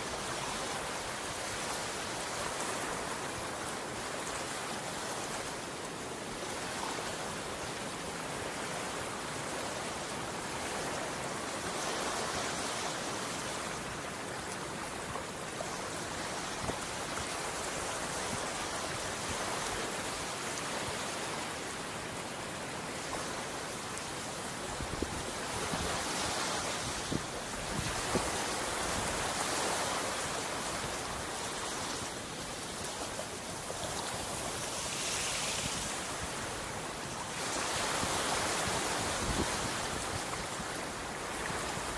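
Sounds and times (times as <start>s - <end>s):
surf washing onto beach: 0.0s - 41.9s.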